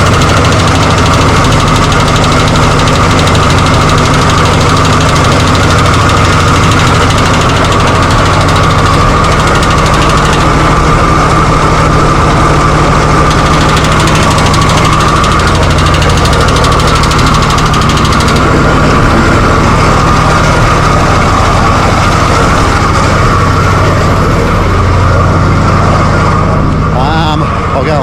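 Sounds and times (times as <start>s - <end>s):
car engine running: 0.0s - 28.0s
high whine: 0.0s - 28.0s.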